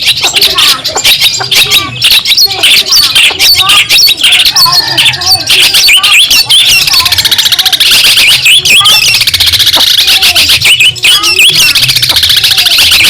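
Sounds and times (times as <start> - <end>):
shrike singing: 0.0 - 13.0.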